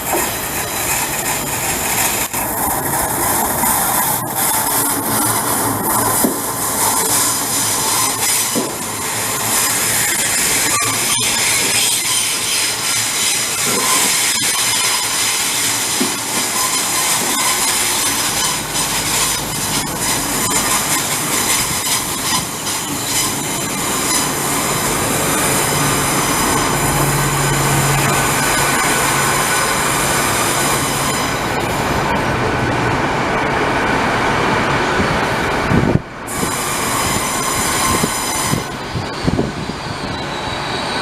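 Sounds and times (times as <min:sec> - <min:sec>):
train wheels on rails: 0:00.0 - 0:41.0.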